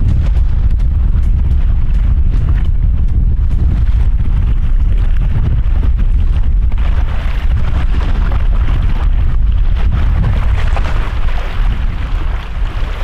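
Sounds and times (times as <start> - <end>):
small waves washing onto shore: 0.0 - 13.0
wind rumble on microphone: 0.0 - 13.0.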